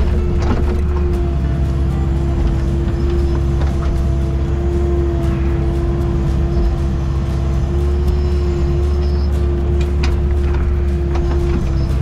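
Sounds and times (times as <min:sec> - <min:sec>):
excavator diesel engine running: 0:00.0 - 0:12.0
hydraulic whine: 0:00.0 - 0:12.0.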